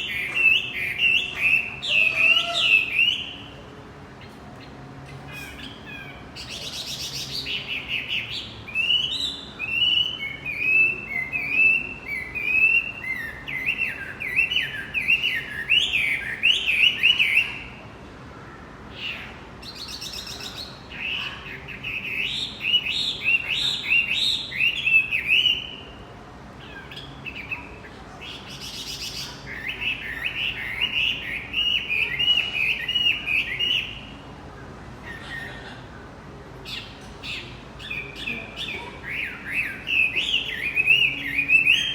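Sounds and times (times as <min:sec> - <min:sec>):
bird chattering song: 0:00.0 - 0:03.6, 0:04.2 - 0:17.8, 0:18.9 - 0:26.0, 0:26.6 - 0:34.2, 0:35.0 - 0:35.9, 0:36.6 - 0:41.9.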